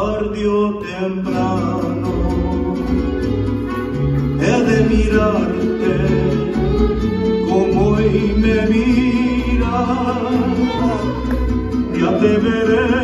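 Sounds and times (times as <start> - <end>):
man singing: 0.0 - 13.0
mariachi band with violins and guitars: 0.0 - 13.0.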